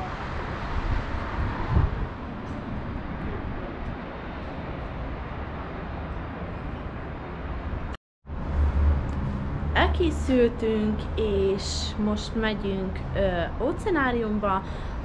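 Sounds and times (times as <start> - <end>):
wind rumbling on microphone: 0.0 - 12.1
distant town traffic: 0.0 - 15.0.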